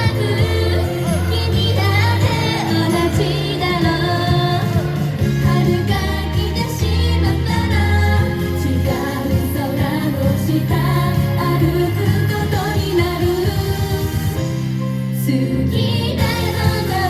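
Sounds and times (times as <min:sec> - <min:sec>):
backing track with beat: 0:00.0 - 0:14.5
women singing: 0:00.0 - 0:17.0.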